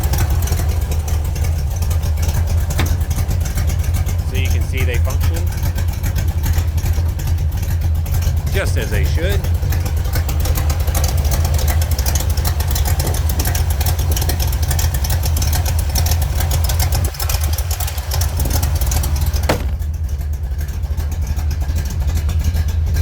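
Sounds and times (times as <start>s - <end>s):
engine idling deep rumble: 0.0s - 23.0s.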